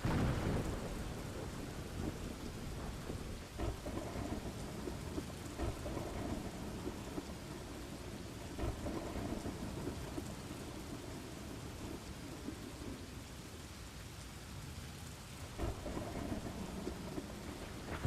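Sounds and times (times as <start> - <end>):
thunder rumbling: 0.0 - 13.4, 15.5 - 18.0
steady rain: 0.0 - 18.0.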